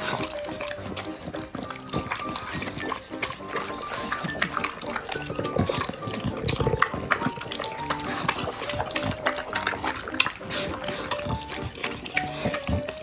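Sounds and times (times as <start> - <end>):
background music simple melody: 0.0 - 13.0
dogs slurping and chewing: 0.0 - 13.0.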